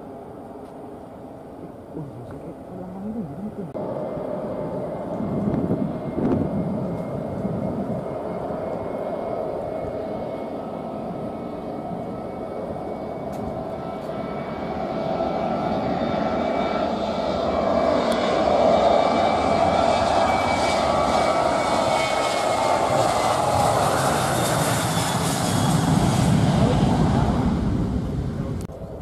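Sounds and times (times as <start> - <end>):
airliner engines: 0.0 - 29.0.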